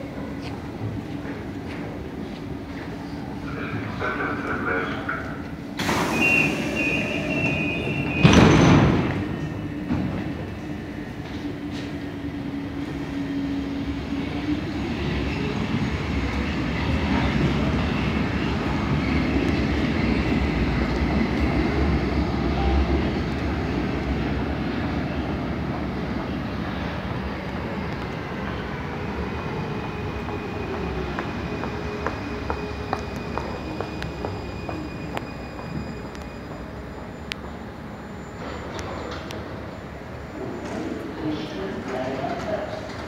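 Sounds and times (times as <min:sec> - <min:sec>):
underground trains rumbling: 0:00.0 - 0:43.0.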